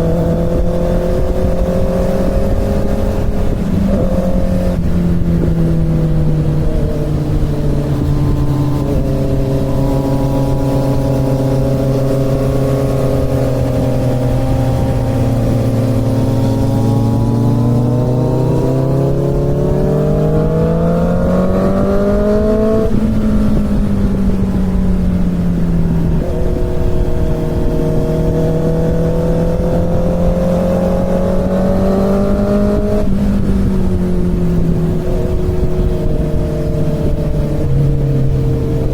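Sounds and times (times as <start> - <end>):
motorcycle engine revving: 0.0 - 38.9
wind and road rush: 0.0 - 38.9.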